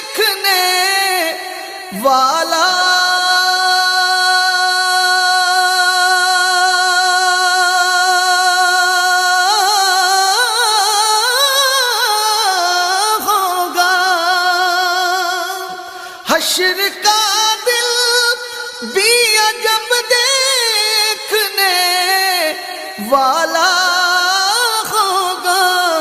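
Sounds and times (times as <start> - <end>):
person singing unaccompanied: 0.0 - 26.0.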